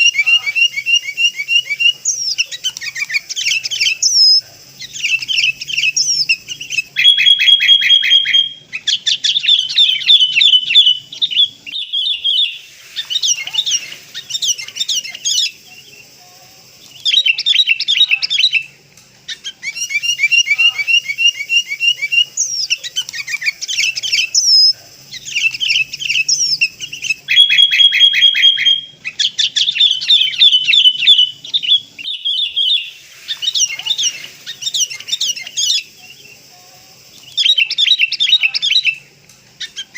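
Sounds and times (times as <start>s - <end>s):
bird chirping and whistling: 0.0s - 15.8s, 16.9s - 18.7s, 19.3s - 36.2s, 37.2s - 39.9s.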